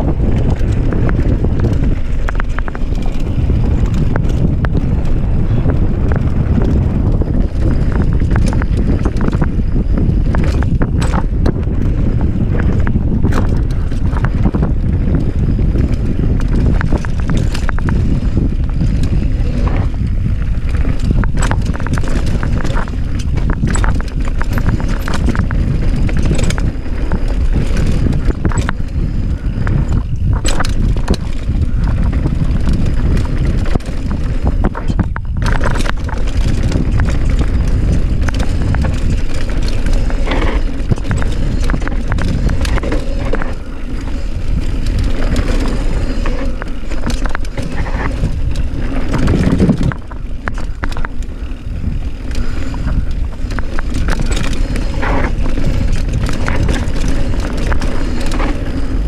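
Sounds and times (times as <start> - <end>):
bike rattling over bumps: 0.0 - 59.0
bike tyres rolling over dirt: 0.0 - 59.0
wind rumble on microphone: 0.0 - 59.0.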